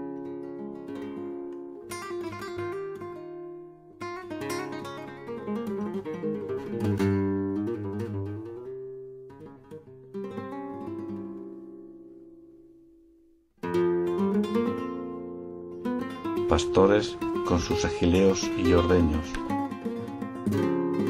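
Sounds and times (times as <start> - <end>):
acoustic guitar music: 0.0 - 21.0.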